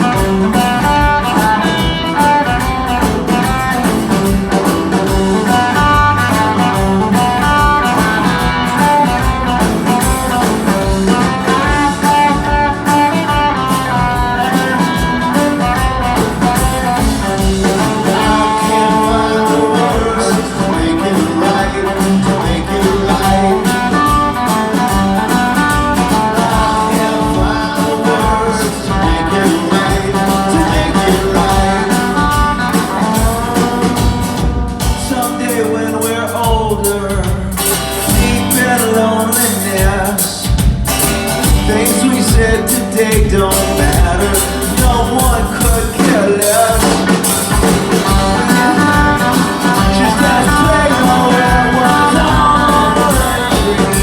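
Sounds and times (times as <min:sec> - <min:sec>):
person singing: 0:00.0 - 0:40.6, 0:41.6 - 0:54.0
rock band playing live: 0:00.0 - 0:54.0.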